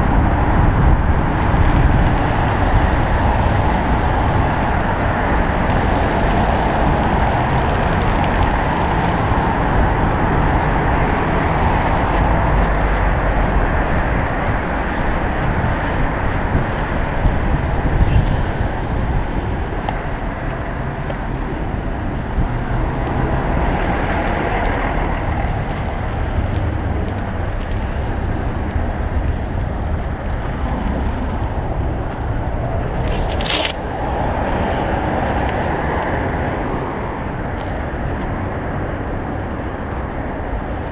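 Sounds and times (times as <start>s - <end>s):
passing cars and trucks rumble: 0.0s - 40.9s
wind buffeting microphone: 0.0s - 40.9s.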